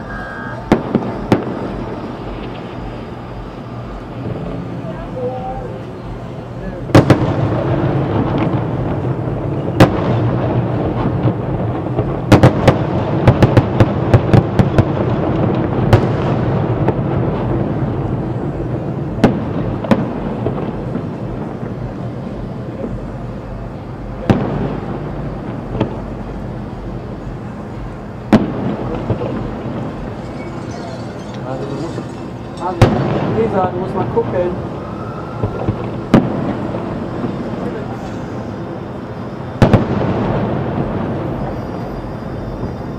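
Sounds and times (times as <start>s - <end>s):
crackling bangs: 0.0s - 4.8s, 6.8s - 41.6s
continuous rumble: 0.0s - 42.9s
firework bangs: 0.0s - 42.9s.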